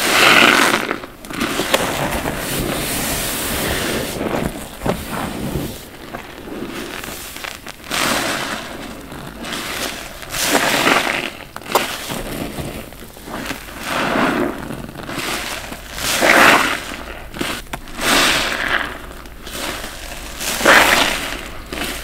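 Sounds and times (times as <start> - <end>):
soapy sponge squelching: 0.0 - 22.0.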